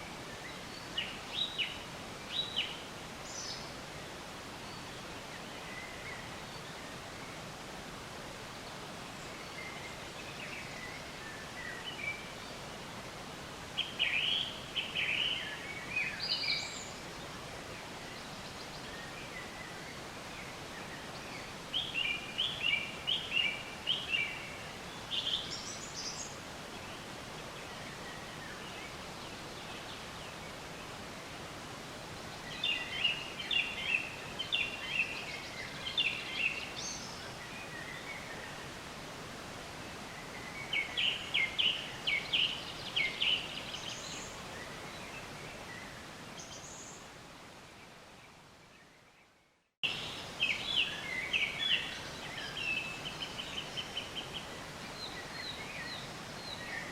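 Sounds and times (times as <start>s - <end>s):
outdoor hiss: 0.0s - 56.9s
songbird chirping: 0.0s - 56.9s.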